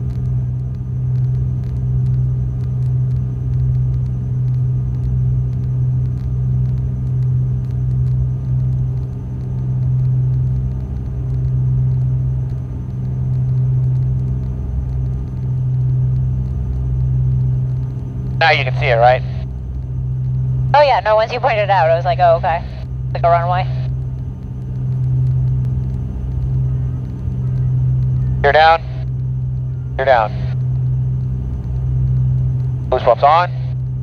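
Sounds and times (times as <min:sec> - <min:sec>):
aircraft engines droning in cabin: 0:00.0 - 0:34.0.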